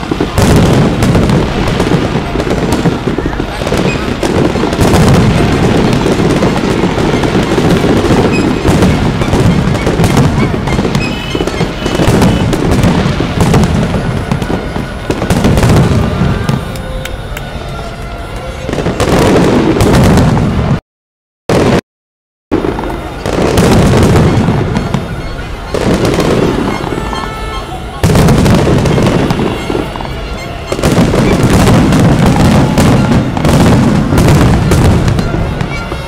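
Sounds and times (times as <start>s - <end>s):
fireworks bursting: 0.0s - 20.8s, 21.5s - 21.8s, 22.5s - 36.0s
fireworks crackle: 0.0s - 20.8s, 21.5s - 21.8s, 22.5s - 36.0s.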